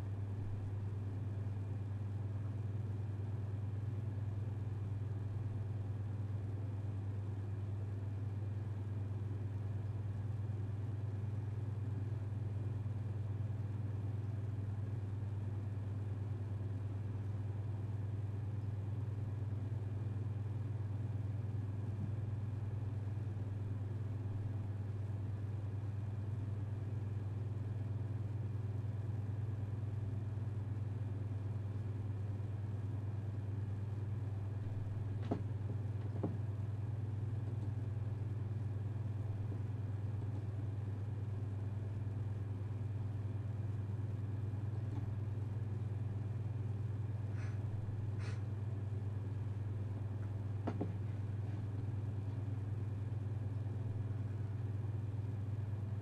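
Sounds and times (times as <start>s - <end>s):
faint constant tones: 0.0s - 56.0s.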